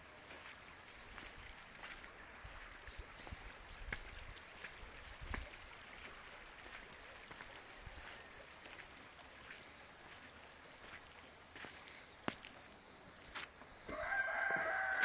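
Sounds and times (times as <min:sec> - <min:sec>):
creek running: 0:00.0 - 0:15.0
footsteps on gravel: 0:00.2 - 0:02.8, 0:03.9 - 0:15.0.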